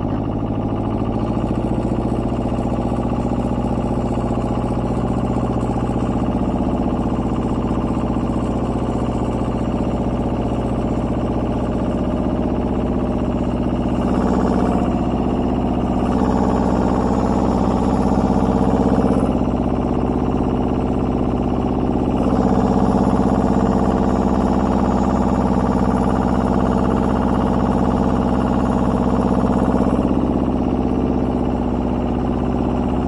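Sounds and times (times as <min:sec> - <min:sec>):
tractor engine running under load: 0:00.0 - 0:33.0.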